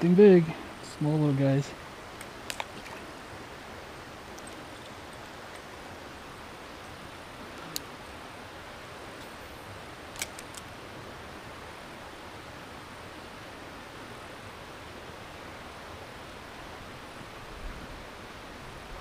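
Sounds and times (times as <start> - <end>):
creek running over rocks: 0.0 - 17.4.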